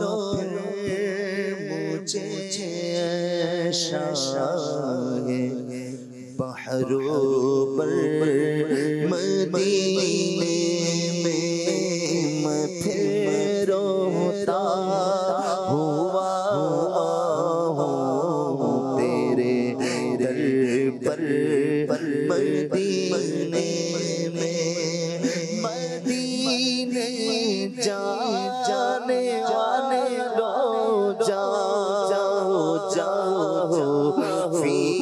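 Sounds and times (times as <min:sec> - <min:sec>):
man singing into a microphone: 0:00.0 - 0:35.0.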